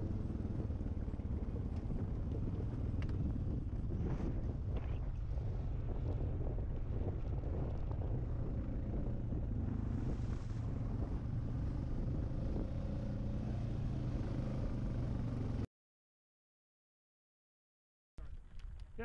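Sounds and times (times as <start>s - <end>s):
atv engine running: 0.0s - 15.6s.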